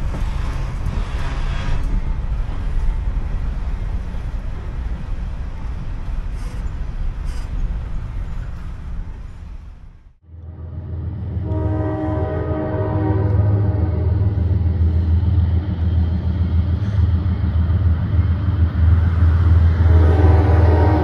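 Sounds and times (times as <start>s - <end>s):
freight train rumble: 0.0s - 21.0s.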